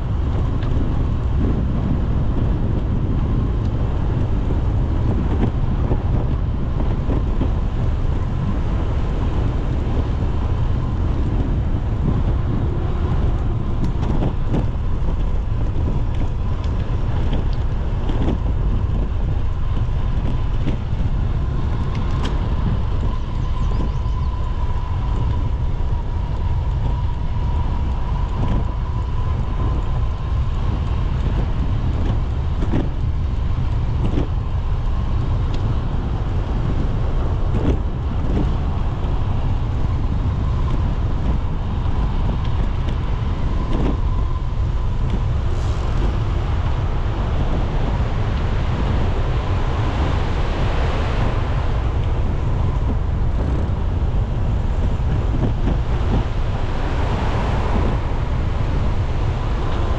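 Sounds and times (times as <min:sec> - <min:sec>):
bicycle road noise: 0:00.0 - 0:59.9
steady high whine: 0:00.0 - 0:59.9
wind buffeting microphone: 0:00.0 - 0:59.9.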